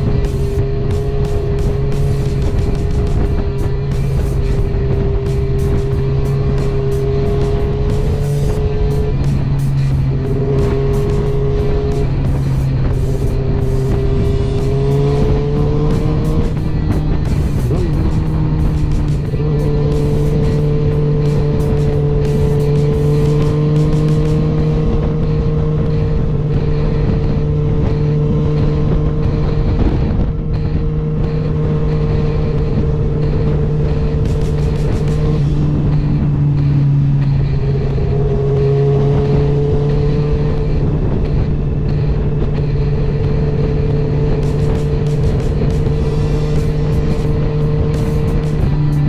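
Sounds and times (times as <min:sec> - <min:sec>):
motorcycle engine running: 0:00.0 - 0:49.0
wind rush: 0:00.0 - 0:49.0.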